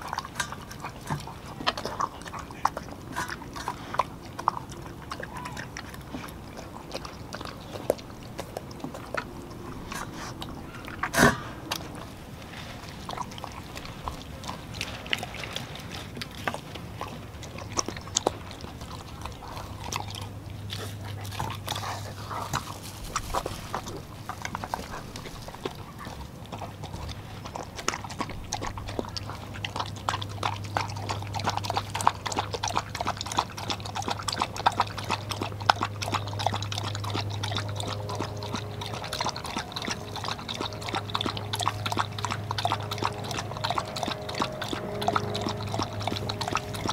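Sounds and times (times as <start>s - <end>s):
dogs eating from metal bowl: 0.0s - 46.9s
low hum: 0.0s - 46.9s.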